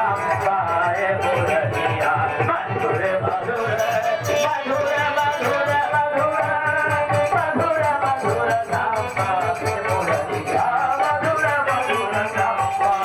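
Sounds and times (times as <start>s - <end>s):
harmonium: 0.0s - 13.0s
man singing devotional song: 0.0s - 13.0s
tabla drum beat: 0.0s - 13.0s.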